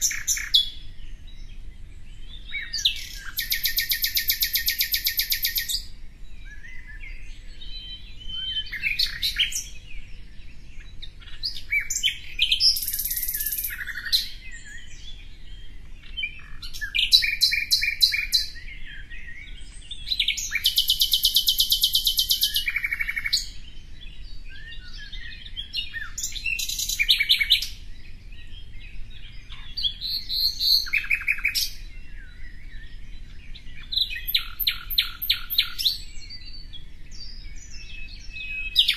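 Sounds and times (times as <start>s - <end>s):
songbird trilling and chirping: 0.0s - 38.9s.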